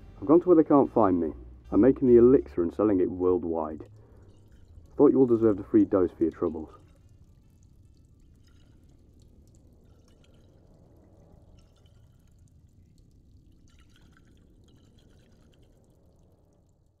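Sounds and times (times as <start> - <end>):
low steady rumble: 0.0 - 13.7
water dripping and trickling: 0.0 - 17.0.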